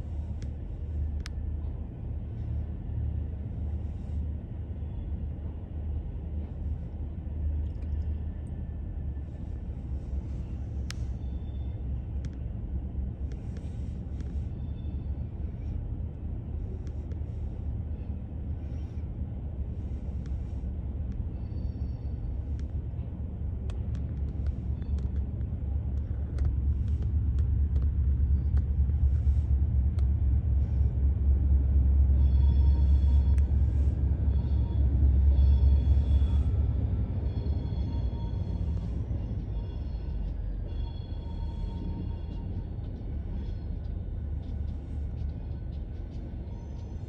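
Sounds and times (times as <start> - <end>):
train rumbling on track: 0.0 - 47.0.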